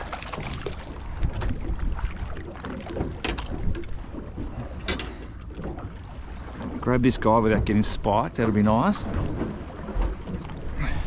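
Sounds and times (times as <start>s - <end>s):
water against boat hull: 0.0s - 11.0s.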